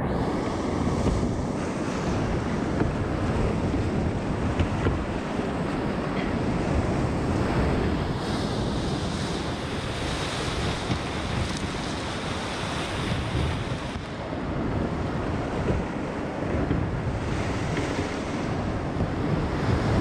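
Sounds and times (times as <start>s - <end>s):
whitewater rushing and splashing: 0.0s - 20.0s
wind rumbling on microphone: 0.0s - 20.0s.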